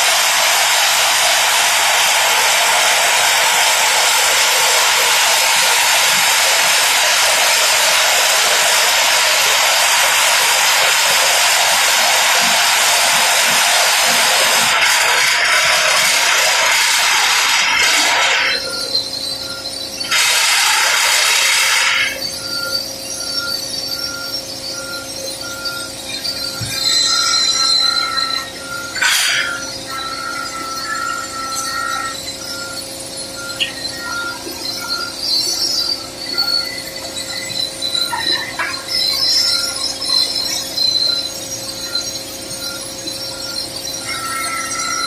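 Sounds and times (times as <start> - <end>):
drill rig drilling rock: 0.0 - 45.0
steady machine hum: 0.0 - 45.0
metallic ringing and squeal: 2.0 - 45.0.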